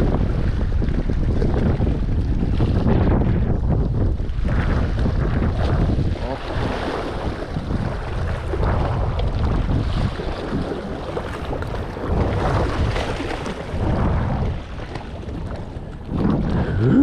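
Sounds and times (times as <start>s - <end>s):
seawater surging and splashing: 0.0s - 17.0s
wind buffeting microphone: 0.0s - 17.0s.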